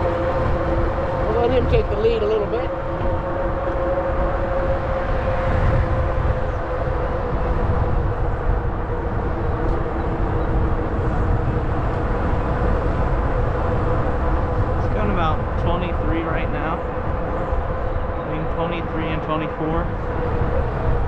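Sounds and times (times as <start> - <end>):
electric bike whine: 0.0 - 21.0
wind and rolling rumble: 0.0 - 21.0.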